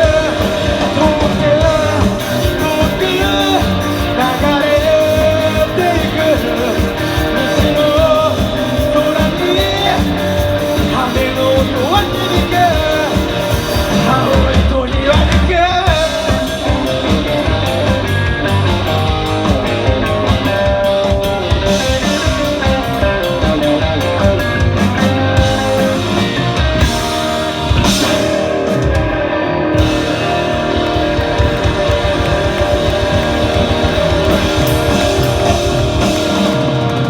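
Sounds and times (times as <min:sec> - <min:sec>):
drums: 0:00.0 - 0:37.0
electric guitars strummed: 0:00.0 - 0:37.0.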